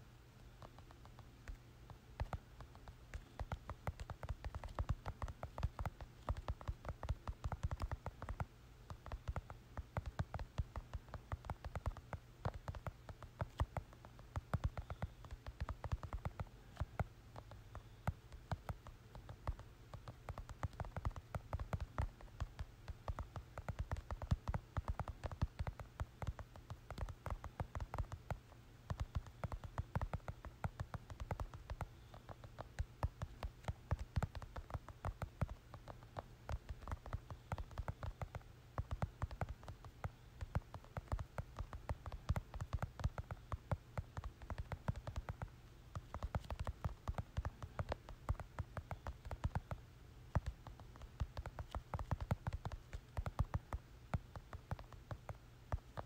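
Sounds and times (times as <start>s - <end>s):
low steady hum: 0.0s - 56.0s
typing taps on touchscreen: 0.0s - 56.0s.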